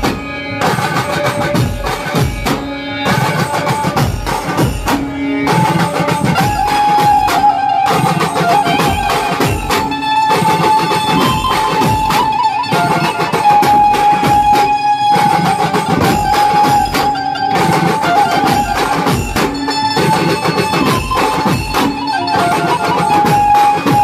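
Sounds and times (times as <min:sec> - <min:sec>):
driving bass and side drums: 0:00.0 - 0:24.0.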